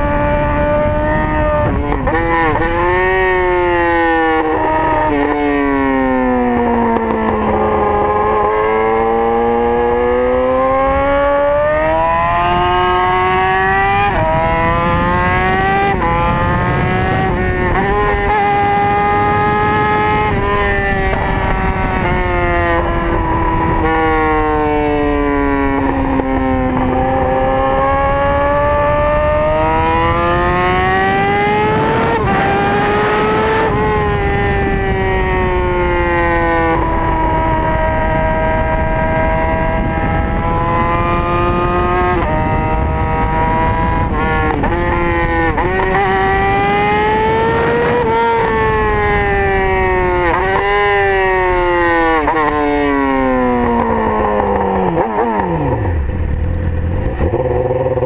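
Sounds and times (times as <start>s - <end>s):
motorcycle engine revving: 0.0s - 58.0s
wind rush: 0.0s - 58.0s.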